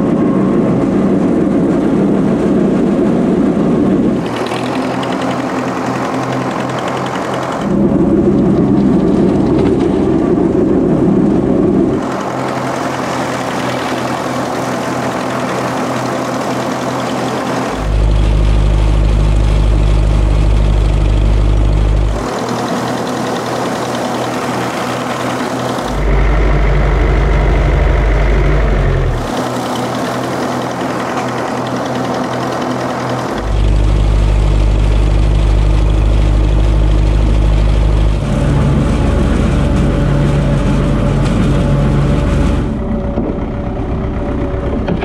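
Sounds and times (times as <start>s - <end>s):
rotary mower cutting grass: 0.0s - 45.0s
tractor engine running: 0.0s - 45.0s.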